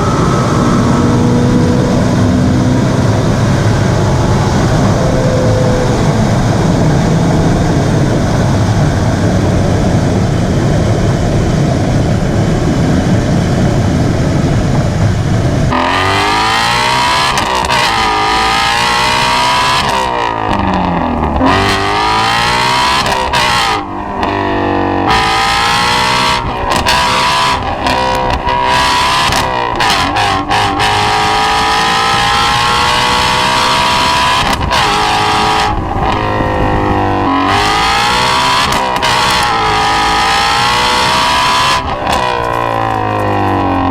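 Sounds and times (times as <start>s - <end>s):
car engine revving: 0.0s - 43.9s
loud rushing noise: 0.0s - 43.9s.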